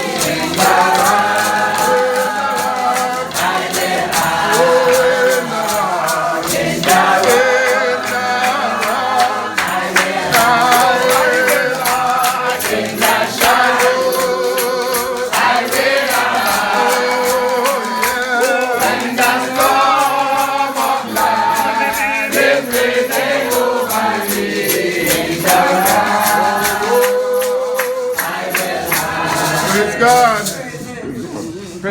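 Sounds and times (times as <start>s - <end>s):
congregation singing a hymn: 0.0s - 30.8s
rhythmic percussion beat: 0.0s - 31.9s.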